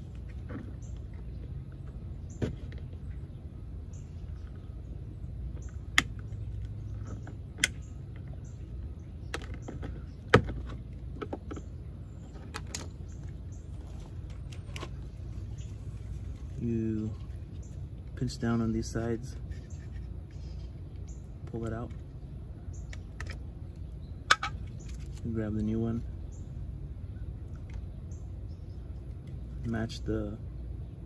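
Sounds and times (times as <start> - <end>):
low steady background rumble: 0.0 - 31.0.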